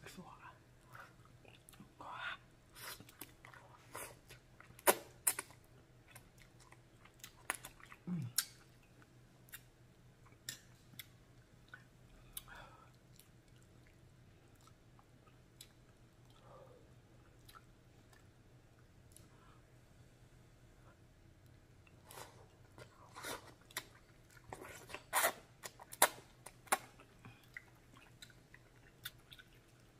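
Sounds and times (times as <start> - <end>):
wet chewing and mouth smacks: 2.8 - 16.5, 17.2 - 19.4, 21.4 - 29.9.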